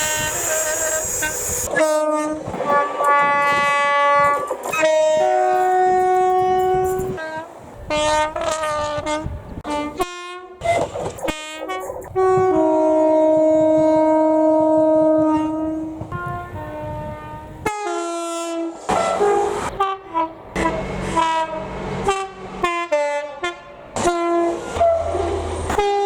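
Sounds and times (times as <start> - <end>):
train horn blasts: 0.0 - 26.0.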